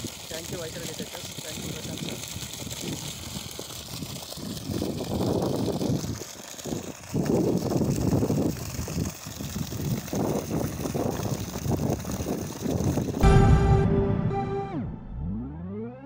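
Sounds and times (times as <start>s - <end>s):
water pouring onto ground: 0.0s - 13.2s.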